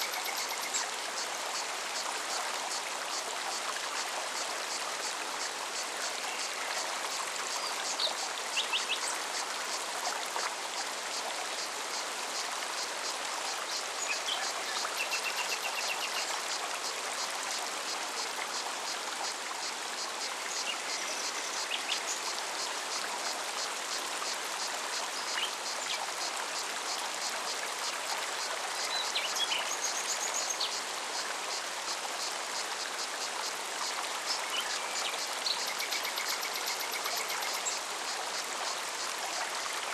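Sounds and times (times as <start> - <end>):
mountain stream running: 0.0 - 39.9.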